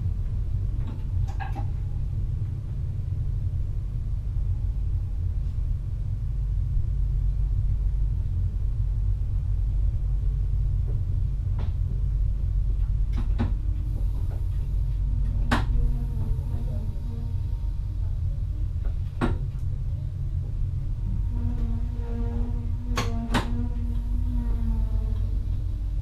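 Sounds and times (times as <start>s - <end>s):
electric train rumble: 0.0s - 26.0s.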